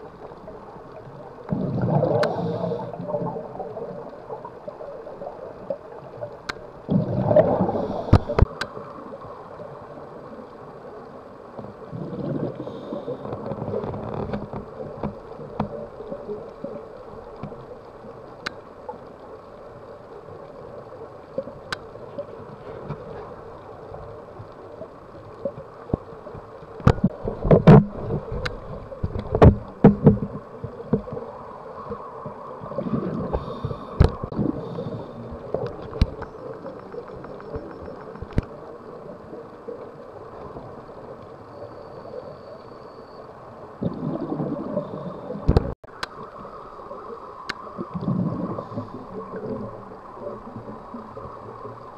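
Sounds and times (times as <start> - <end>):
exhaled bubbles underwater: 0.0 - 18.3, 18.9 - 51.9
steady underwater noise: 0.0 - 51.9.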